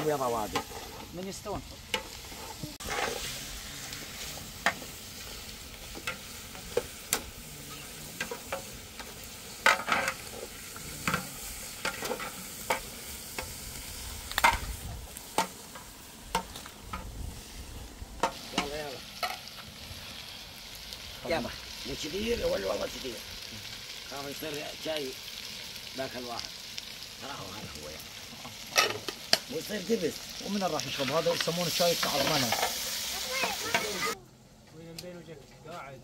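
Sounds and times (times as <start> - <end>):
meat sizzling in a pot: 0.0 - 34.2.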